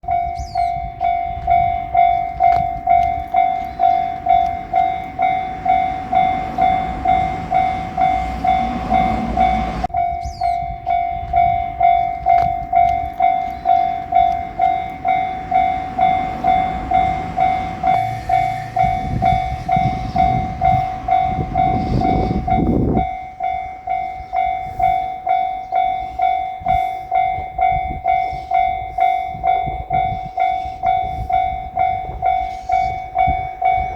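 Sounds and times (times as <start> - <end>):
diesel railcar rumbling: 0.0 - 33.9
level crossing warning bell: 0.0 - 33.9.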